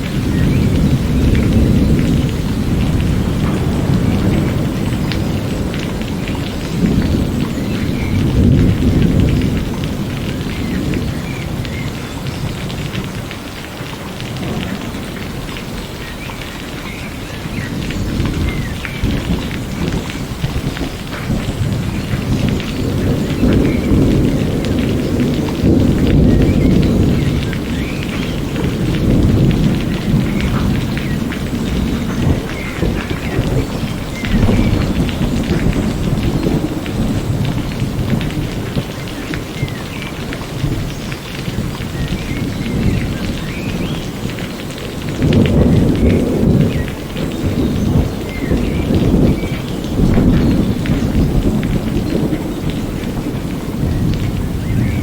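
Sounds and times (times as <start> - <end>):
rain falling: 0.0 - 55.0
thunder rumble: 0.0 - 55.0.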